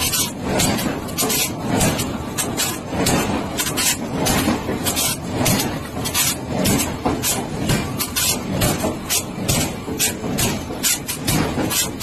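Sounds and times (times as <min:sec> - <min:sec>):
forge-shop noise: 0:00.0 - 0:12.0.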